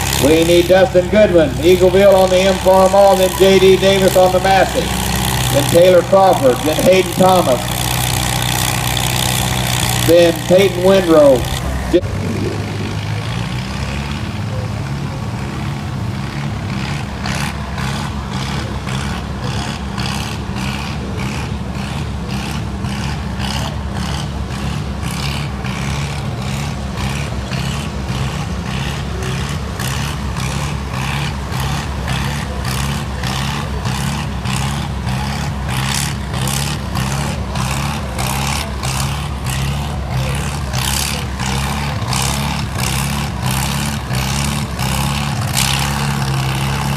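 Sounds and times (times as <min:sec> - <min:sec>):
tractor engine running under load: 0:00.0 - 0:46.9.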